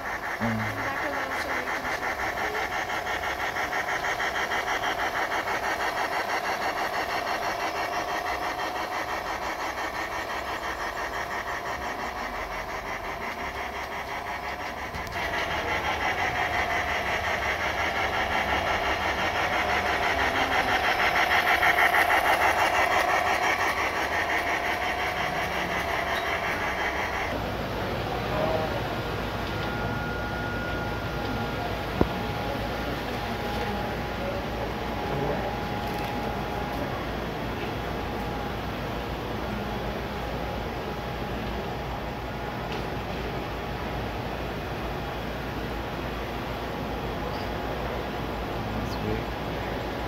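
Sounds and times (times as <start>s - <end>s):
model train humming and clattering: 0.0s - 50.0s.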